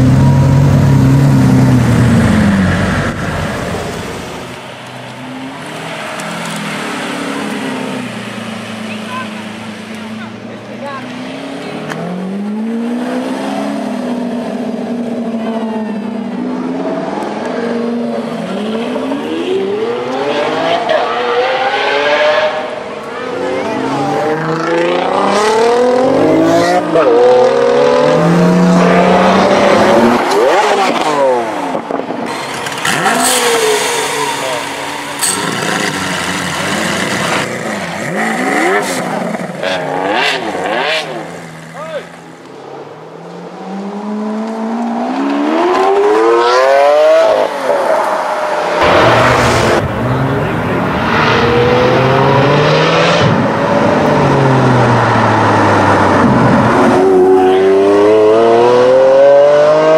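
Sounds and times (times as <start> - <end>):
supercar engines accelerating: 0.0 - 59.9.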